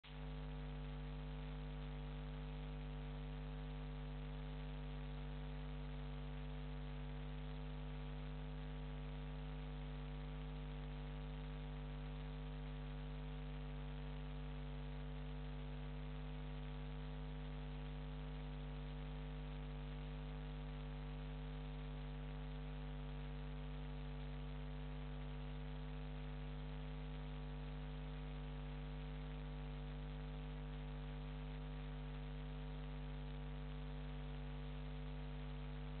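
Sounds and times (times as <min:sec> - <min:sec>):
electrical mains hum with hiss: 0:00.1 - 0:36.0.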